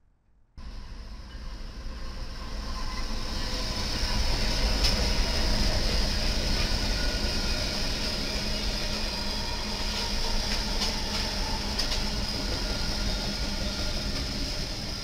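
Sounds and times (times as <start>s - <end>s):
locomotive engines droning: 0.6s - 15.0s
train wheels rumbling on rails: 0.6s - 15.0s.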